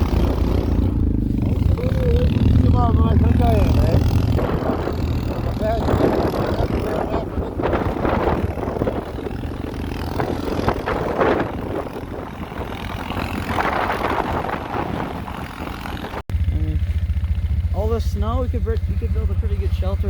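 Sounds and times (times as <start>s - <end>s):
wind on microphone: 0.0s - 17.0s
quad bike engine running: 0.0s - 20.0s.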